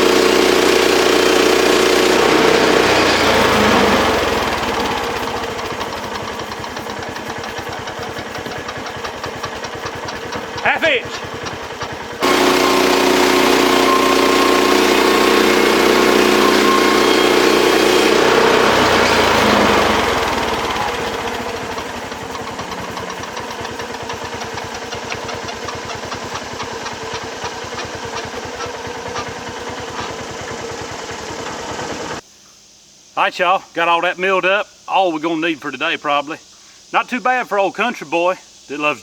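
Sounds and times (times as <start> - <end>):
sawmill gas engine running: 0.0 - 32.2.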